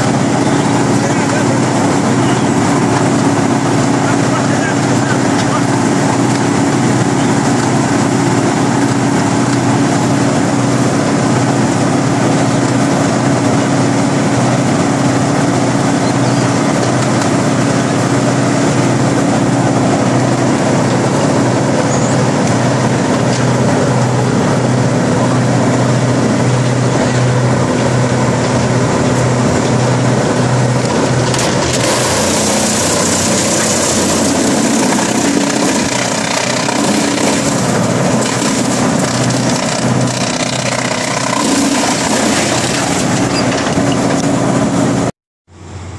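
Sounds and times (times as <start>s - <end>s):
wood chipper crunching log: 0.0s - 45.1s
diesel engine running: 0.0s - 45.9s.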